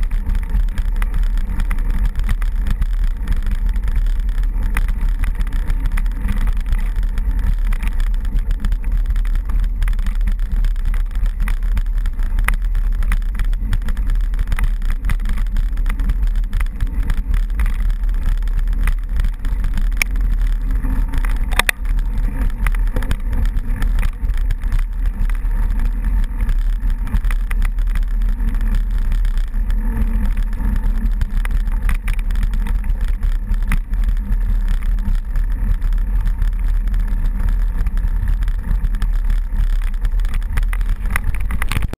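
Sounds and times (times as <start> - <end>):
vehicle engine droning: 0.0 - 41.9.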